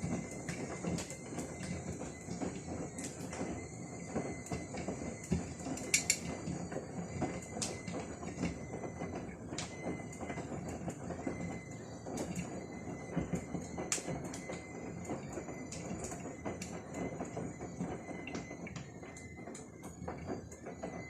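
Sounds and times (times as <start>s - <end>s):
kettle whistling: 0.0s - 21.0s.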